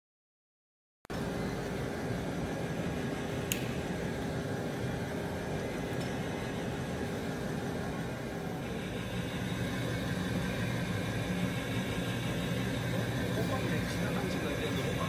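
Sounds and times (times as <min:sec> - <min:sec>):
conveyor machine hum and whir: 0:01.1 - 0:15.0.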